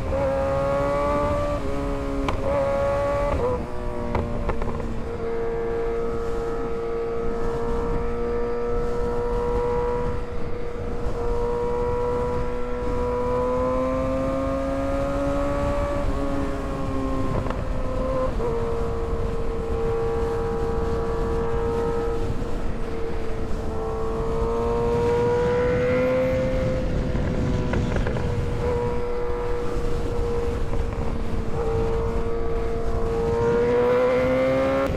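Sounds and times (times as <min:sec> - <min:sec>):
motorcycle engine cruising: 0:00.0 - 0:34.9
wind noise: 0:00.0 - 0:34.9.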